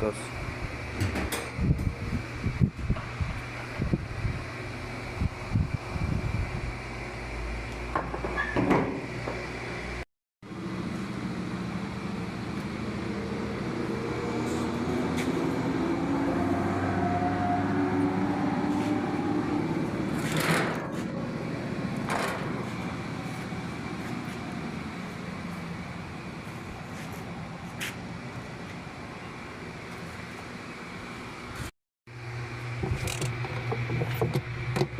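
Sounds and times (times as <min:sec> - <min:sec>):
washing machine motor hum: 0:00.0 - 0:31.5, 0:32.1 - 0:34.9.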